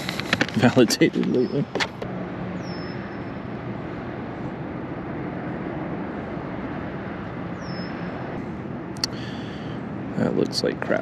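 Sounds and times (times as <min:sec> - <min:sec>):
outdoor rushing noise: 0:00.0 - 0:11.0.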